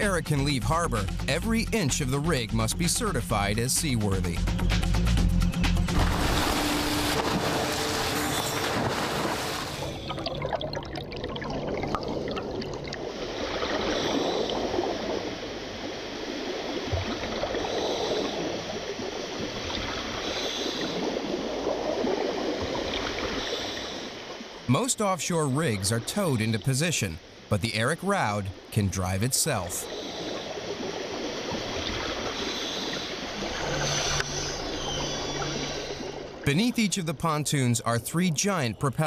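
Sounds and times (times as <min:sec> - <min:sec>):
water rushing and splashing: 0:05.6 - 0:39.0.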